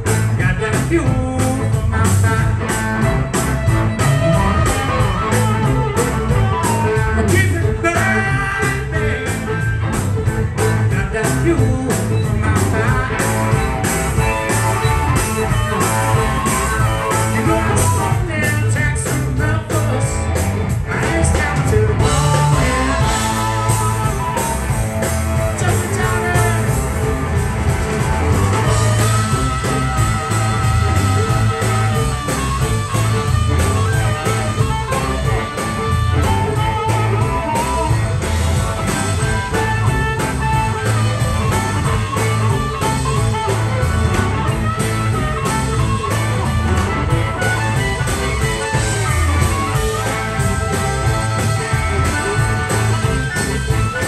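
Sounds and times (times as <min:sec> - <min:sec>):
blues band playing: 0:00.0 - 0:54.0
harmonica: 0:00.0 - 0:54.0.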